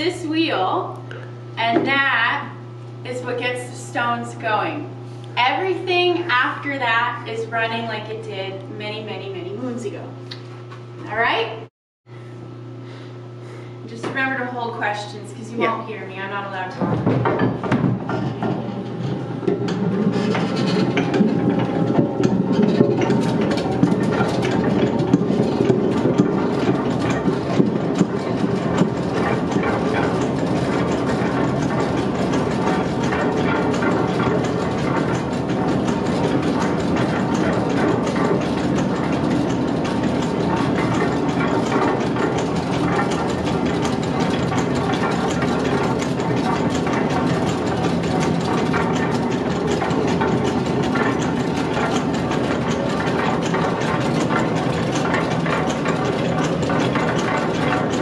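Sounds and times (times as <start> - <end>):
mill machinery rumbling and clattering: 0.0 - 11.7, 13.8 - 58.0.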